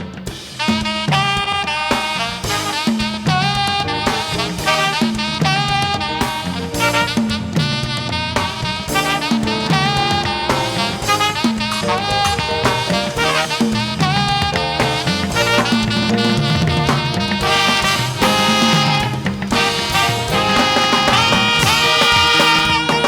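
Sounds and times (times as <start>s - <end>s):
upbeat band music with brass: 0.0s - 23.0s.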